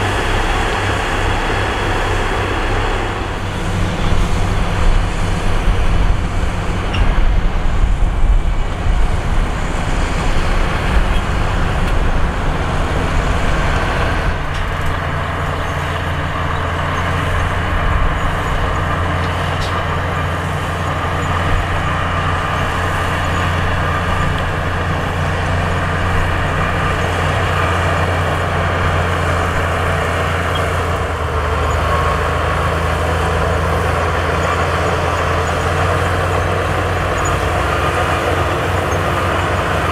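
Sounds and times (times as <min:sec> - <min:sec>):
heavy diesel engines rumbling: 0:00.0 - 0:39.9.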